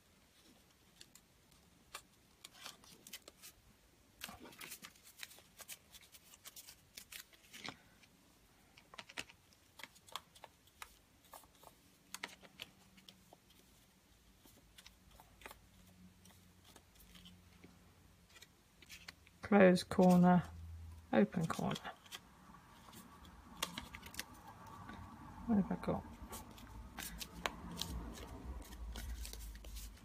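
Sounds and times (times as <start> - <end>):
paper rustling and crinkling: 0.3 - 3.6, 4.2 - 8.1, 8.9 - 20.2, 21.3 - 25.0, 26.1 - 30.0.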